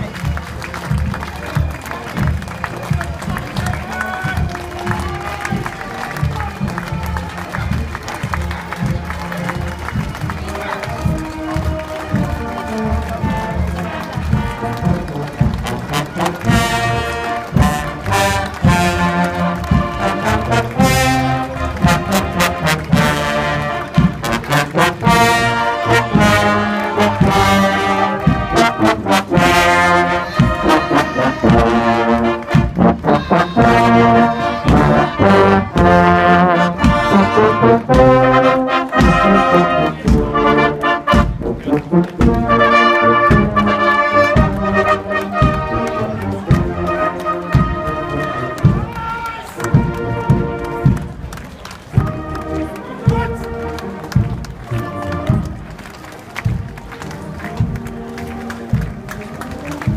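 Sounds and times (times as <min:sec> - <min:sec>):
marching brass band playing: 0:00.0 - 0:59.9.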